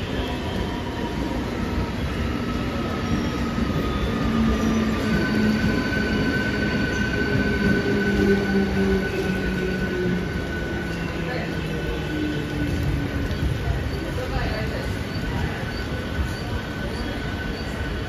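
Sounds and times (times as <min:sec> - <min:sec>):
electric train rumbling past: 0:00.0 - 0:18.0.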